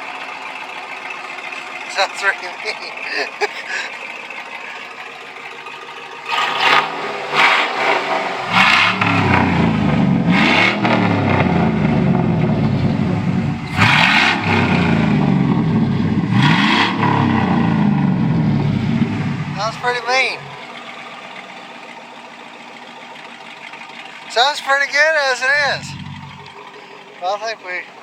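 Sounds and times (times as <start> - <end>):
pickup truck engine revving: 0.0 - 28.0.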